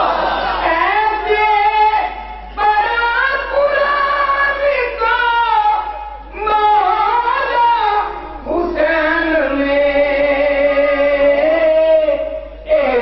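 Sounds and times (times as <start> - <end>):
man singing devotional song: 2.6 - 13.0.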